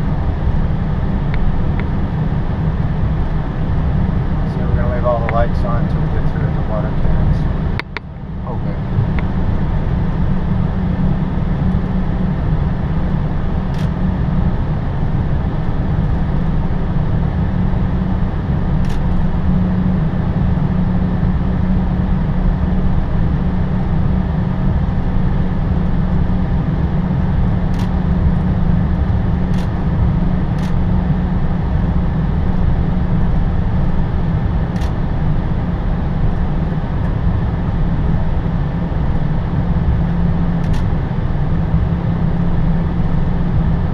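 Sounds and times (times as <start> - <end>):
airliner rumble and rush: 0.0 - 43.9.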